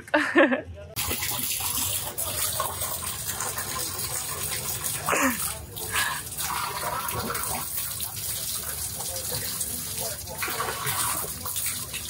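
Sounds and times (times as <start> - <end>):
water pouring and splashing: 1.0 - 12.0.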